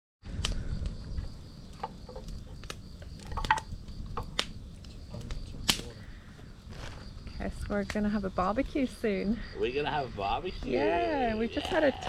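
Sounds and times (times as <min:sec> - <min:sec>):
campfire crackling and popping: 0:00.2 - 0:12.0
crickets chirring: 0:00.2 - 0:12.0.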